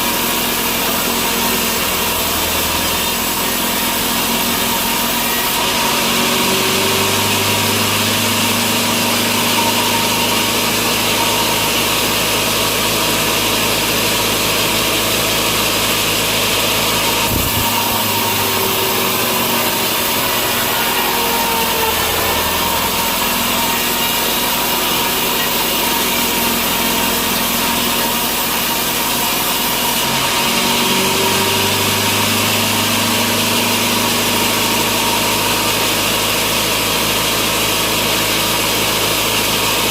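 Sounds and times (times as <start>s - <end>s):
motor running steadily: 0.0s - 39.9s
saw cutting through log: 0.0s - 39.9s.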